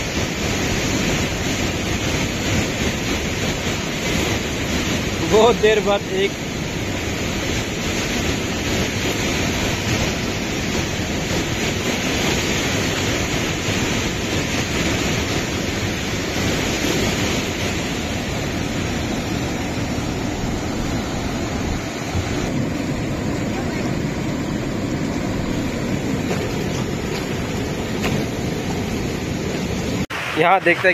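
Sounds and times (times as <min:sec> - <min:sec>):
river rapids rushing over rocks: 0:00.0 - 0:30.9.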